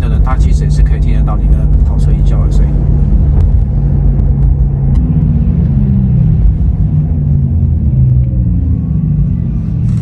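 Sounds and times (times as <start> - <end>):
synthesized engine drone: 0.0 - 10.0.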